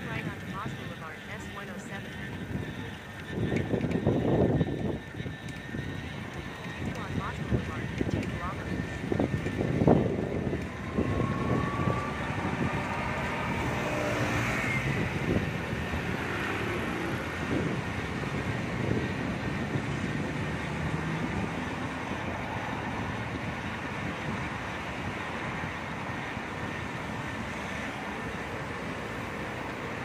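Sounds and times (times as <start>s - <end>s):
street traffic and road noise: 0.0s - 30.0s.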